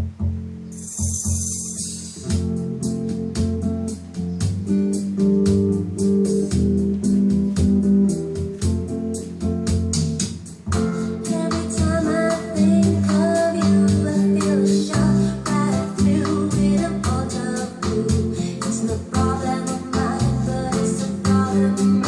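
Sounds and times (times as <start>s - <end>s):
bossa nova music: 0.0s - 22.0s.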